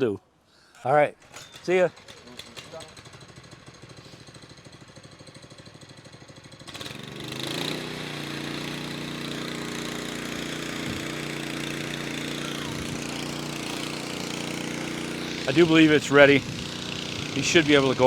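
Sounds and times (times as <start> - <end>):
power trowel engine running: 1.3 - 18.0.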